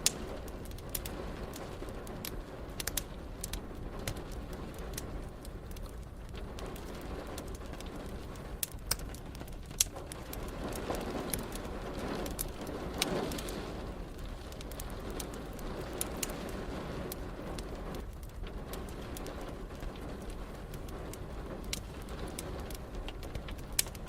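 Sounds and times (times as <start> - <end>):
rain hiss: 0.0 - 24.0
wood fire crackling and popping: 0.0 - 24.0.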